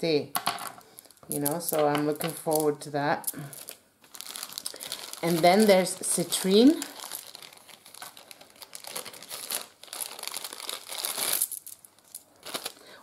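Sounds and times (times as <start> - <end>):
plastic bags crinkling: 0.8 - 13.0.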